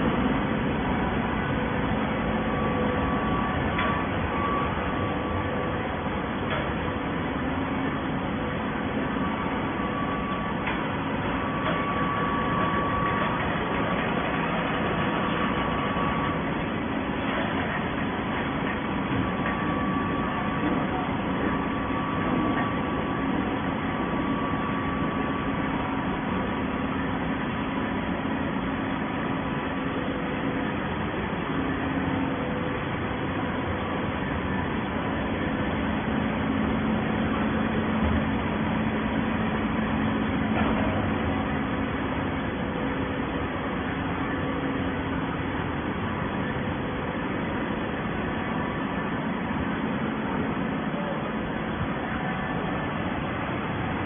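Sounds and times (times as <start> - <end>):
baler machine hum: 0.0 - 54.0.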